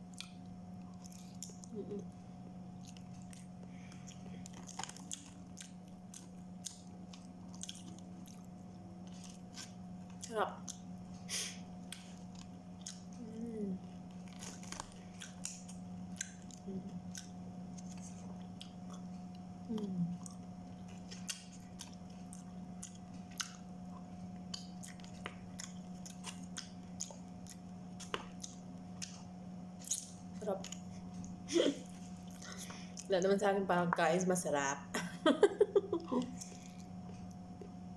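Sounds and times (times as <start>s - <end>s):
chewing crispy fried chicken: 0.0s - 33.4s, 35.6s - 37.9s
low electrical hum: 0.0s - 37.9s.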